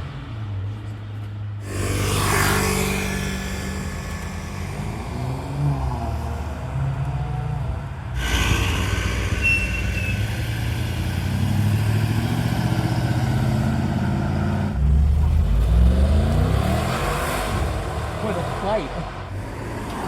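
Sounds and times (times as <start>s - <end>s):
car engines running: 0.0s - 20.0s
car accelerating: 1.6s - 20.0s.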